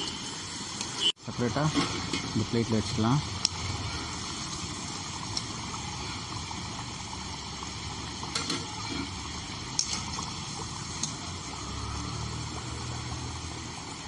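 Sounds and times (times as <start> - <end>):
potatoes sizzling in hot oil: 0.0 - 14.0.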